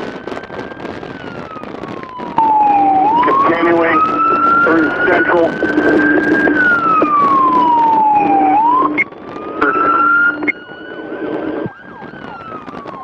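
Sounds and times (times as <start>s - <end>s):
motorcycle siren wailing: 0.0s - 13.0s.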